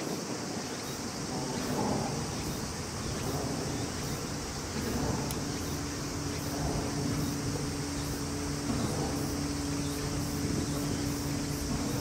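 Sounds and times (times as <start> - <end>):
faint steady hum: 0.0 - 12.0
insect drone: 0.0 - 12.0
low rumble: 1.3 - 12.0.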